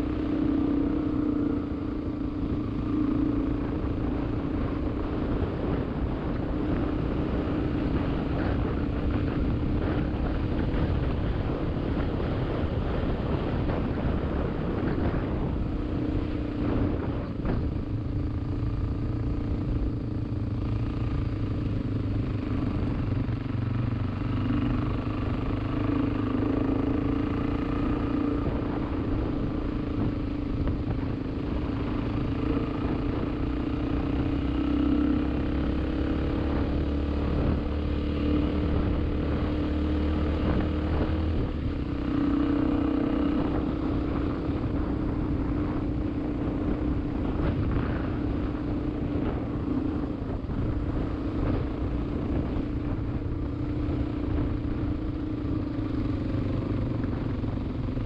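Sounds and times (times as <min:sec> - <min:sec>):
road and wind noise: 0:00.0 - 0:58.0
vehicle engine running: 0:00.0 - 0:58.0.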